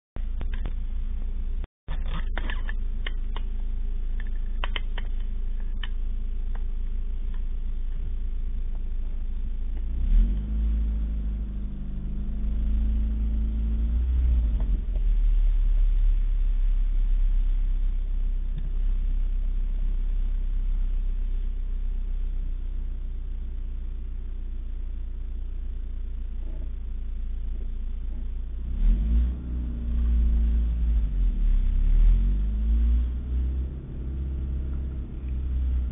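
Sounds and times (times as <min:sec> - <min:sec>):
car engine rumbling: 0:00.2 - 0:35.9.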